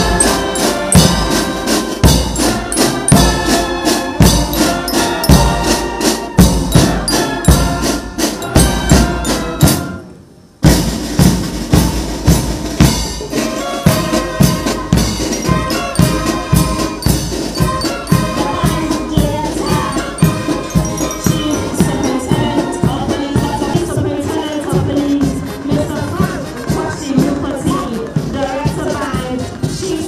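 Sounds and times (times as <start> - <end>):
music with steady drum beat: 0.0 - 30.0.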